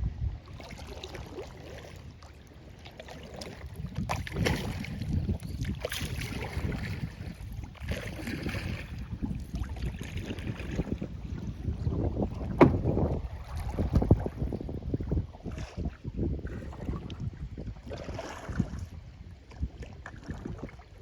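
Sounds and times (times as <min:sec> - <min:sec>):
wind on microphone: 0:00.0 - 0:21.0
paddle strokes splashing: 0:00.4 - 0:21.0.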